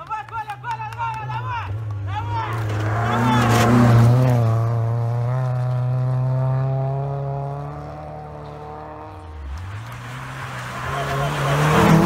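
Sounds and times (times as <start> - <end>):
second rally car engine approaching: 0.3 - 12.0
rally car engine pulling away: 1.2 - 12.0.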